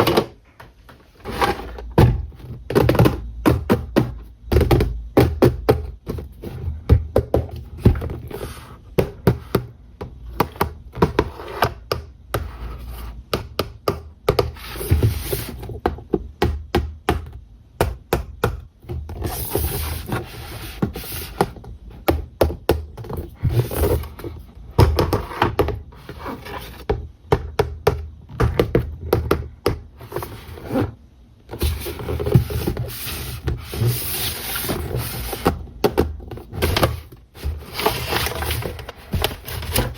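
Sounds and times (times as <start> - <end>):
plastic and cardboard tapping: 1.8 - 8.3, 8.9 - 12.5, 13.2 - 19.4, 20.0 - 25.9, 26.5 - 30.4, 31.5 - 39.9.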